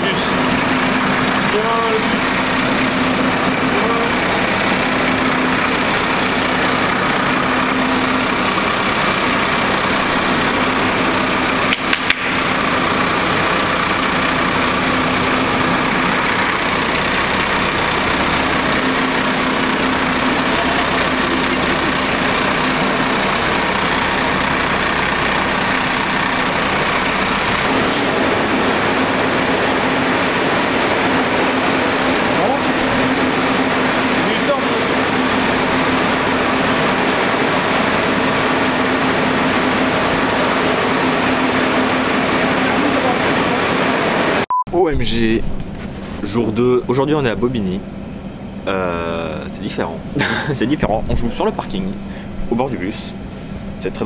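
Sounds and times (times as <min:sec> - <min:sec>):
diesel engine running at low speed: 0:00.0 - 0:54.0.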